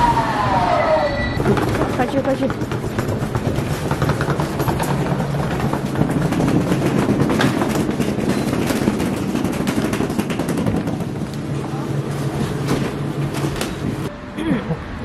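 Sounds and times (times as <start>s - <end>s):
tram humming: 0.0s - 15.0s
suitcase wheels rattling on paving: 1.4s - 14.1s.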